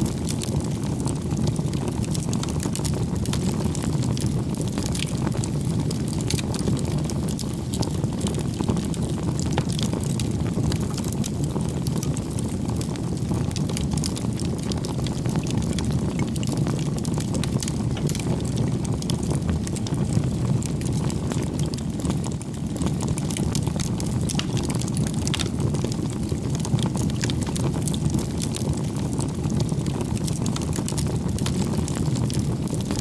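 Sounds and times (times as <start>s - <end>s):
campfire crackling and popping: 0.0s - 33.0s
fire low rumble: 0.0s - 33.0s.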